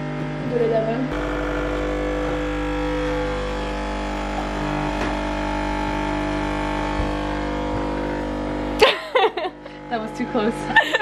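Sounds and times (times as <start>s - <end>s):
espresso machine pump buzzing: 0.0s - 11.0s.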